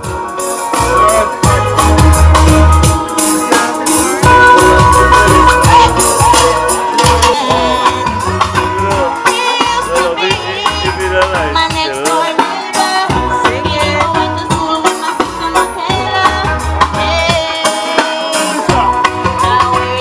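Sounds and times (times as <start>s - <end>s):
backing track with beat and bass: 0.0s - 20.0s
woman singing into a microphone: 3.9s - 20.0s.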